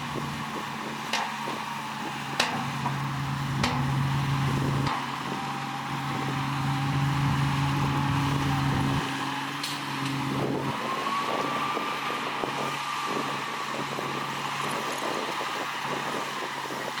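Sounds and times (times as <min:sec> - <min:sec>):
machinery whine: 0:00.0 - 0:16.6
diesel machinery engine running: 0:00.0 - 0:17.0.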